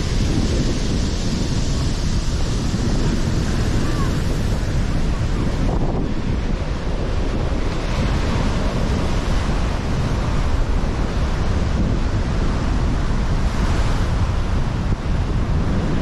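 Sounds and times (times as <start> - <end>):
waves breaking on shore: 0.0 - 16.0
wind buffeting microphone: 0.0 - 16.0.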